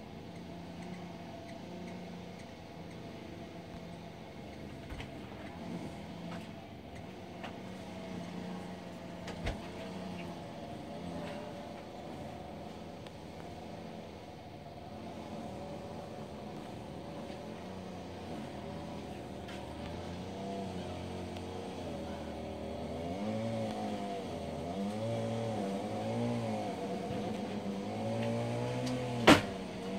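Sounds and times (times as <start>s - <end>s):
engine revving up and down: 0.0s - 29.9s.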